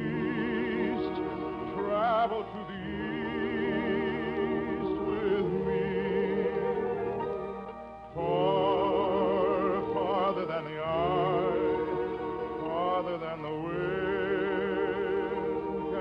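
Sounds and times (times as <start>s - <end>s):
baritone singing with vibrato: 0.0s - 16.0s
orchestra playing: 0.0s - 16.0s.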